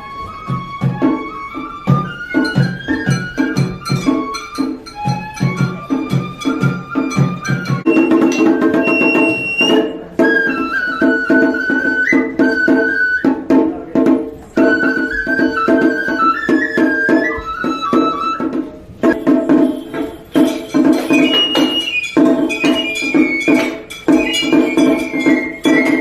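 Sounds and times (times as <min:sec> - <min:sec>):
flute melody: 0:00.0 - 0:13.9, 0:14.5 - 0:26.0
quick percussion beat: 0:00.1 - 0:26.0.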